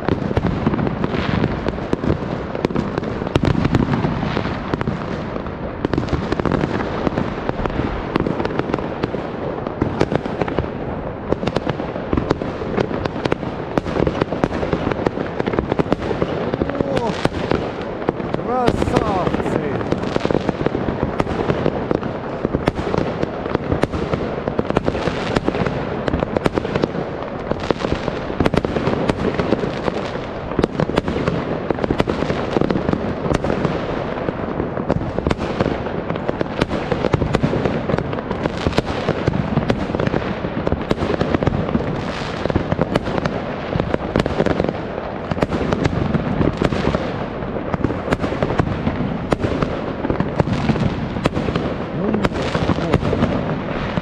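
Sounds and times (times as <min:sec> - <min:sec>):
fireworks bangs: 0:00.0 - 0:54.0
fireworks crackle: 0:00.0 - 0:54.0.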